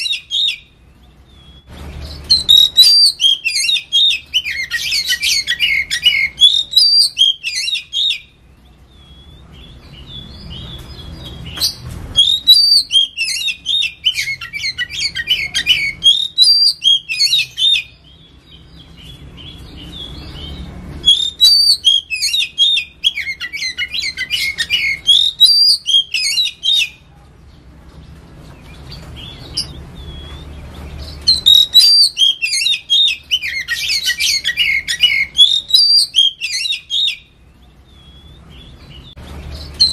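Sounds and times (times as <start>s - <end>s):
bird singing whistles and chirps: 0.0s - 27.0s, 28.7s - 39.9s.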